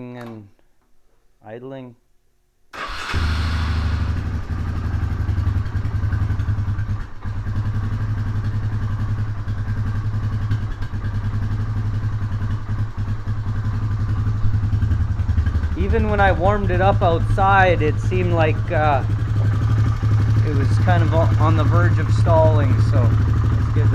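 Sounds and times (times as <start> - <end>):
engine idling low: 3.1 - 23.9.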